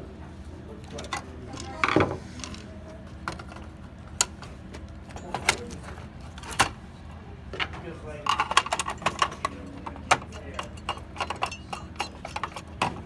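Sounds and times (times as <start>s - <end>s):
computer case parts clattering: 0.8s - 6.8s, 7.6s - 13.0s.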